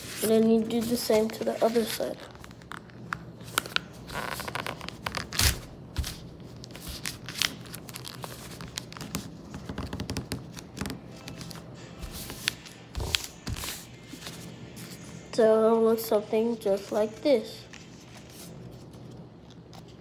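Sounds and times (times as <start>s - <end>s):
paper folded and creased: 0.0s - 15.0s, 17.7s - 20.0s.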